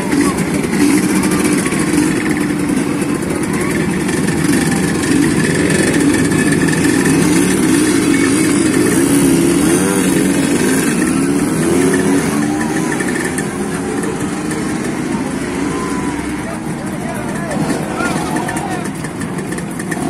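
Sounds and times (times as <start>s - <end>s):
motorcycles revving: 0.0s - 20.0s.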